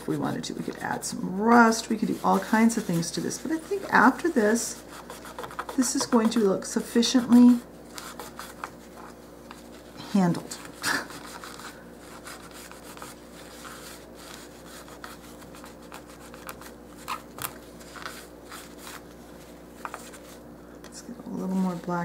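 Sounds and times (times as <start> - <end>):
paper towel rubbing and rustling: 0.0 - 20.5, 21.4 - 22.0
steady low hum: 0.0 - 22.0.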